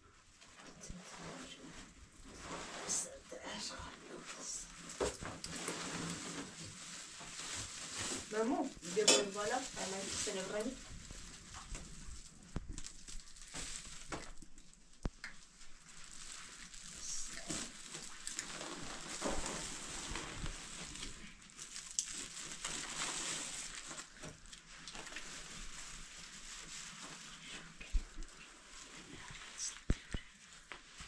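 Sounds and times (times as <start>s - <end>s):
plastic sacks rustling: 1.3s - 31.0s.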